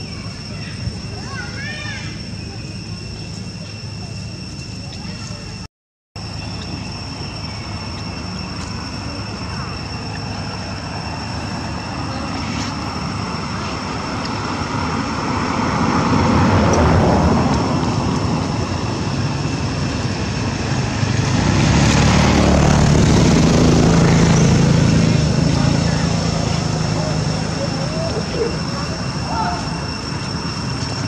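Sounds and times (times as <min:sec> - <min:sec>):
steady high-pitched whine: 0:00.0 - 0:31.0
passing motor vehicles: 0:04.8 - 0:31.0.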